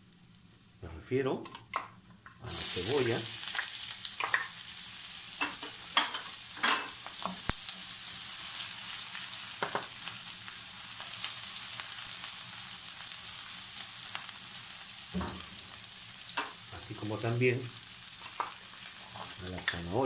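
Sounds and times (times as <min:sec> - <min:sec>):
onion sizzling in oil: 0:01.6 - 0:20.0.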